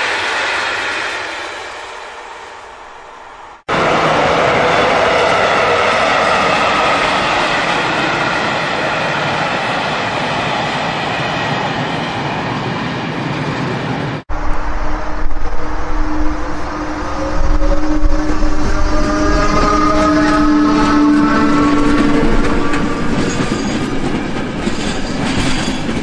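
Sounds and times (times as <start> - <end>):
train wheels rushing on rails: 0.0 - 26.0.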